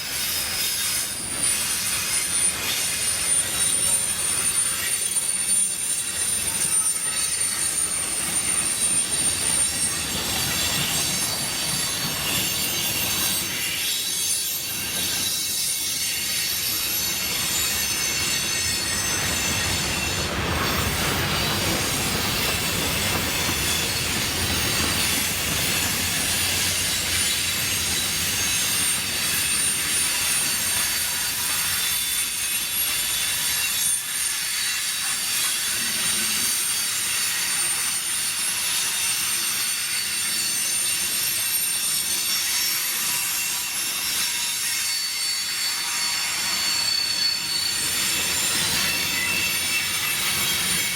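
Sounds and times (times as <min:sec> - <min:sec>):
freight train rumble: 0:00.0 - 0:39.5, 0:45.6 - 0:50.9
steel wheels squealing on rails: 0:00.0 - 0:50.9.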